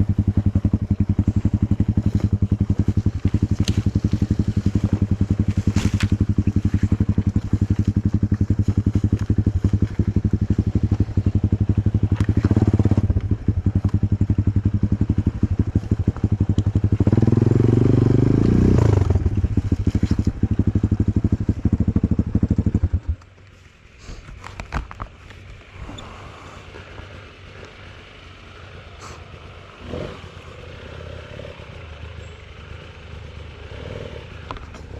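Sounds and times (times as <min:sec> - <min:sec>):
motorcycle engine running and revving: 0:00.0 - 0:23.6, 0:24.2 - 0:34.9.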